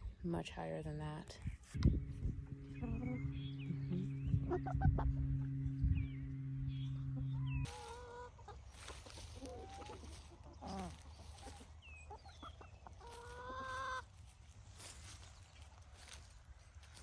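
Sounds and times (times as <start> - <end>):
hens clucking: 2.2 - 17.0.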